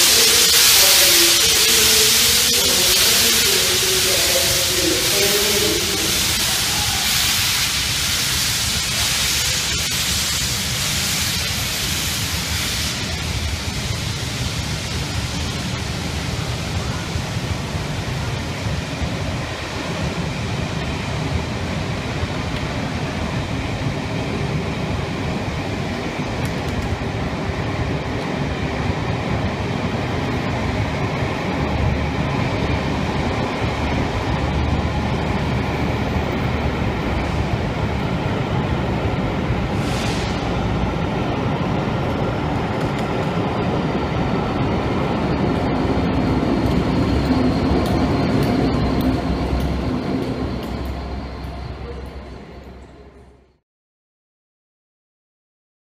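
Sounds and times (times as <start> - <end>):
steam hissing: 0.0 - 51.8
train wheels rumbling on rails: 0.0 - 53.5.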